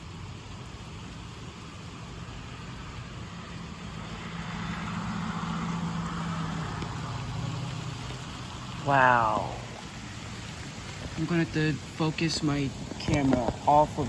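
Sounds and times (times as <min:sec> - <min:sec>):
car passing on wet road: 0:00.0 - 0:14.0
rain hiss: 0:00.0 - 0:14.0.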